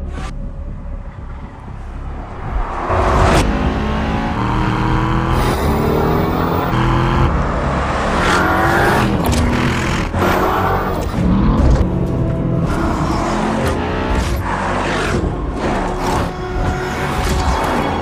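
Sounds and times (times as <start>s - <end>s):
car engine accelerating hard: 2.6s - 18.0s.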